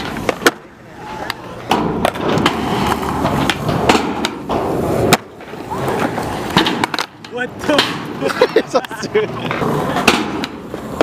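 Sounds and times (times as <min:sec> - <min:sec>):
skateboard clacks: 0:00.0 - 0:11.0
skateboard wheels rolling on concrete: 0:00.0 - 0:11.0.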